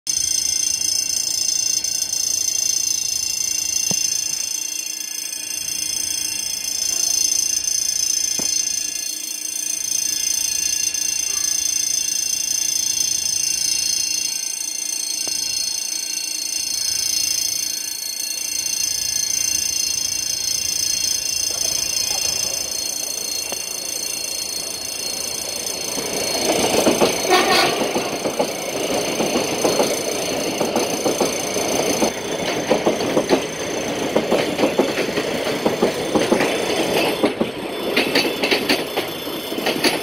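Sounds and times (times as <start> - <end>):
high-pitched multi-tone whine: 0.1 - 40.0.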